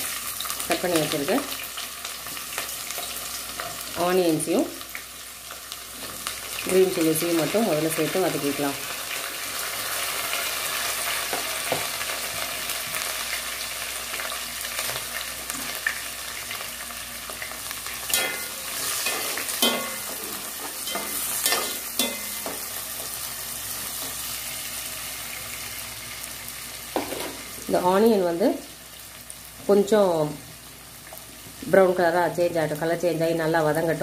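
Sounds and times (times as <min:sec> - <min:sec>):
onions sizzling in hot oil: 0:00.0 - 0:34.0.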